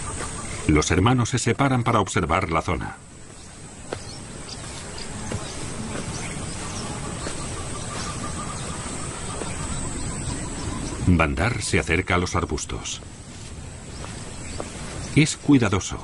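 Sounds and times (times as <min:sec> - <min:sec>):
insects chirring: 0:00.0 - 0:16.0
outdoor ambience: 0:00.0 - 0:16.0.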